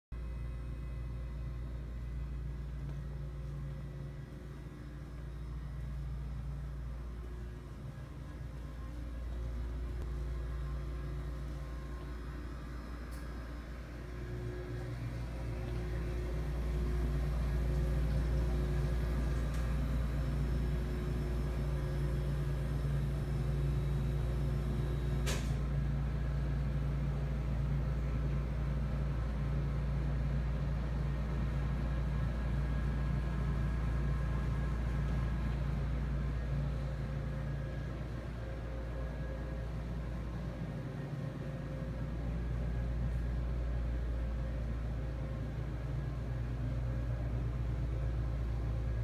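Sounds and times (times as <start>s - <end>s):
mechanical hum of building machinery: 0.1s - 49.0s.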